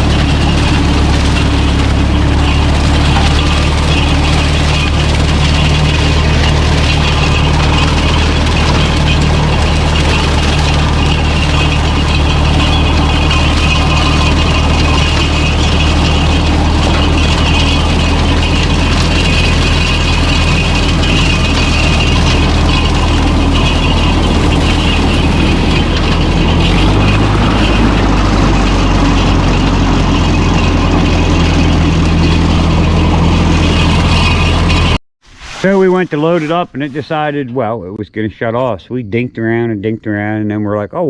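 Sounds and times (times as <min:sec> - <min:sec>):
tractor engine running: 0:00.0 - 0:38.2.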